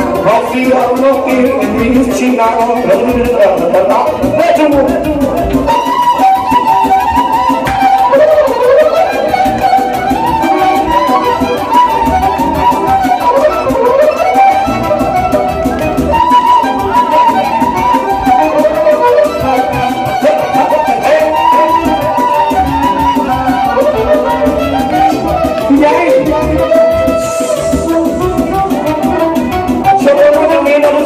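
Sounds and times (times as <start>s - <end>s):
electronic keyboard accompaniment: 0.0s - 31.0s
violin playing ornamented melody: 0.0s - 31.0s.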